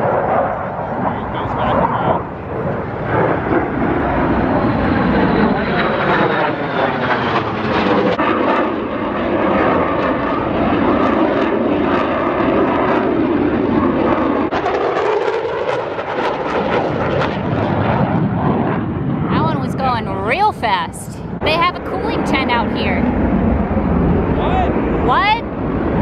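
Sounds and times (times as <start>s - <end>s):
fighter jet flying overhead: 0.0s - 26.0s.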